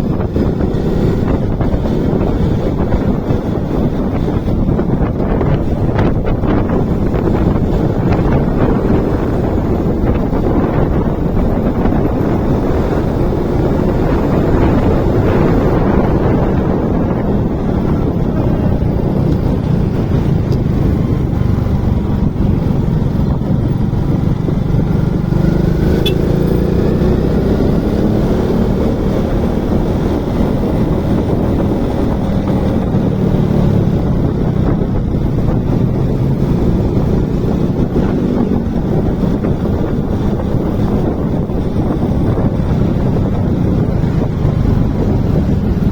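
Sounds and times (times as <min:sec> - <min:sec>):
motorcycle engine roaring: 0:00.0 - 0:45.9
wind rushing over microphone: 0:00.0 - 0:45.9.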